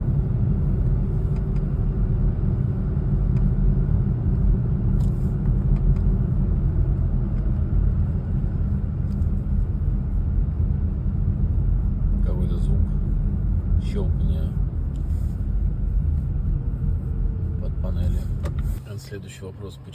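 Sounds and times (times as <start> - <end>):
car road and engine rumble: 0.0 - 19.9.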